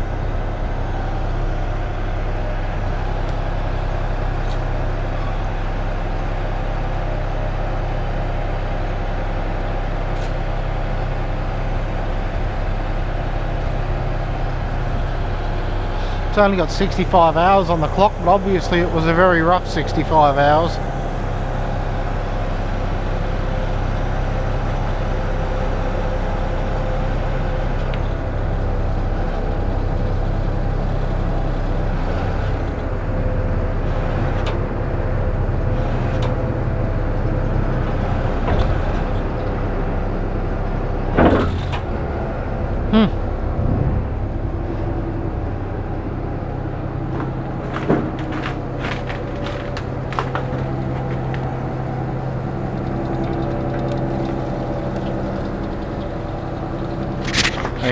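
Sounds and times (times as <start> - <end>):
truck engine drone: 0.0 - 57.9
crane clunks: 8.4 - 57.9.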